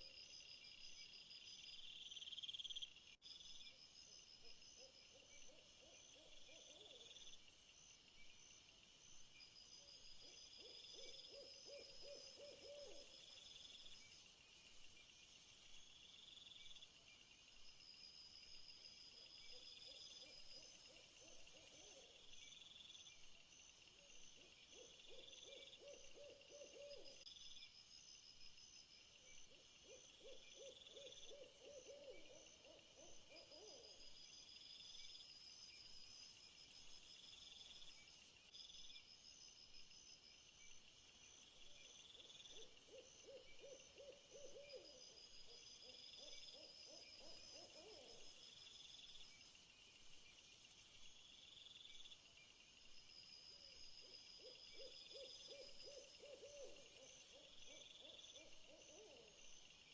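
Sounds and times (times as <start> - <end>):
insect chirps: 0.0 - 59.9.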